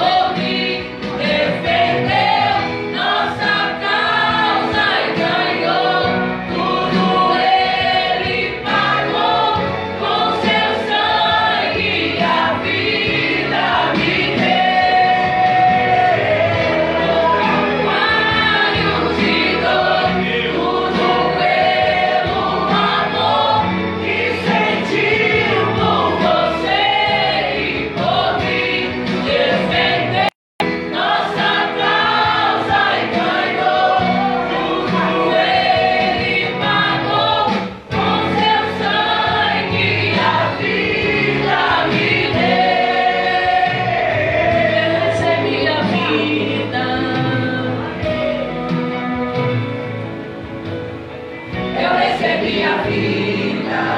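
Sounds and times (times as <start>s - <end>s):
choir singing: 0.0s - 48.2s, 51.5s - 53.9s
musical accompaniment: 0.0s - 53.9s.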